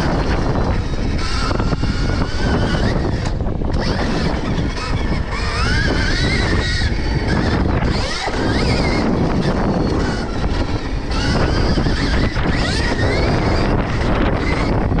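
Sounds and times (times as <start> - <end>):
electric motor whine: 0.0 - 15.0
wind rumble on microphone: 0.0 - 15.0.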